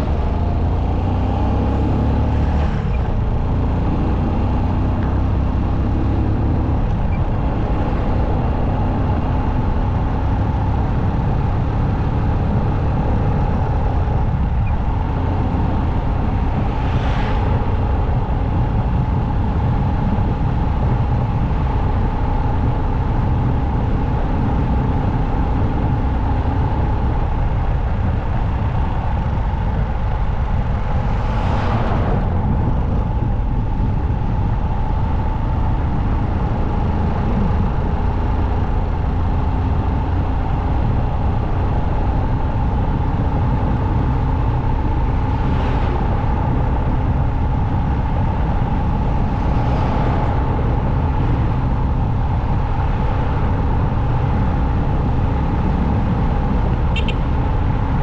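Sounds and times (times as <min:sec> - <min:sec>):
motorcycle engine drone: 0:00.0 - 0:58.0
passing traffic whooshes: 0:00.0 - 0:58.0
wind rushing on microphone: 0:00.0 - 0:58.0.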